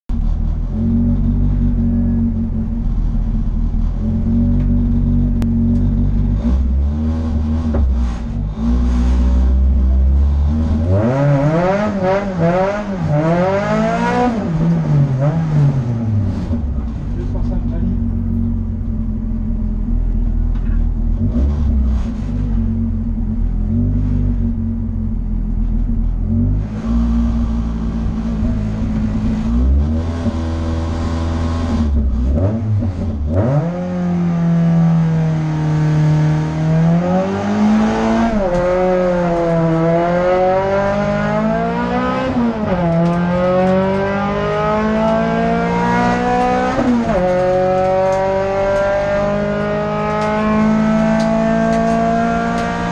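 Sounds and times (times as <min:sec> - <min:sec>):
race car engine revving: 0:00.1 - 0:52.9.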